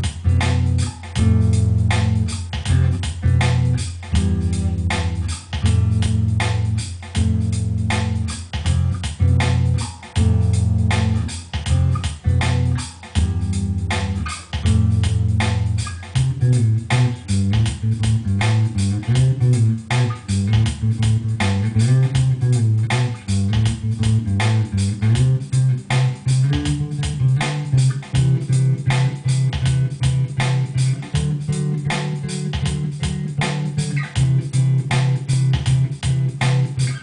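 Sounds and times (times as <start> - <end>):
bass guitar solo: 0.0 - 37.0
drum machine beat: 0.0 - 37.0.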